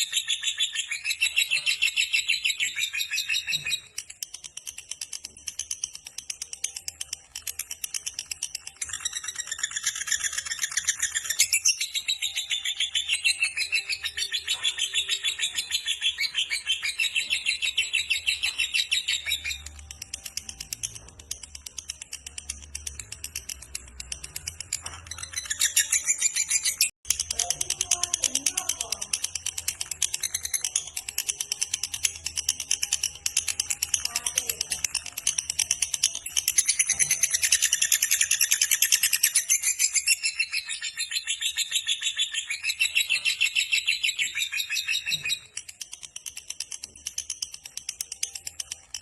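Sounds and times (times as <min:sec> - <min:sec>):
bird chattering trill: 0:00.0 - 0:49.0.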